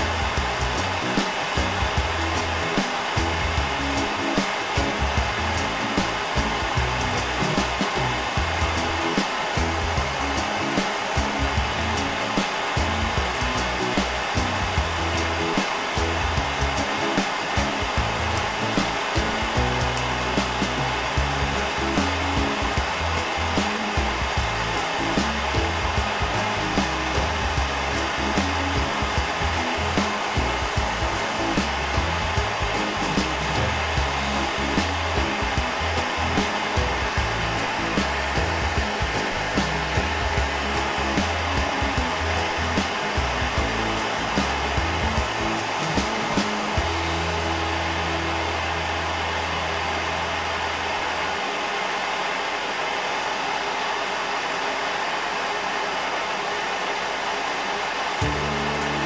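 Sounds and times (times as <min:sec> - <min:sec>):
background music: 0:00.0 - 0:51.4, 0:58.2 - 0:59.0
gas burner flame hissing: 0:00.0 - 0:59.0.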